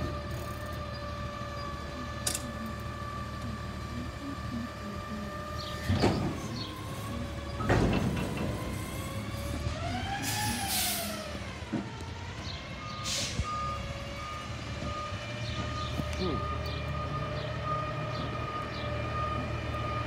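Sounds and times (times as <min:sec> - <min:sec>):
truck engine and hydraulics humming: 0:00.0 - 0:20.0.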